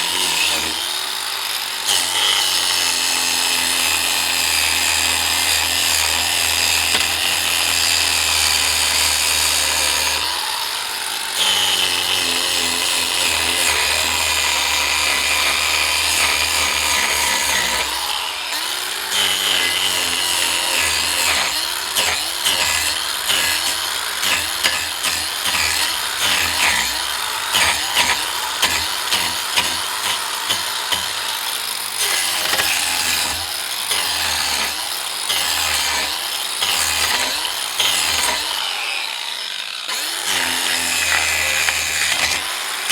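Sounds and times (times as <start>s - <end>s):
angle grinder cutting wood: 0.0s - 42.9s.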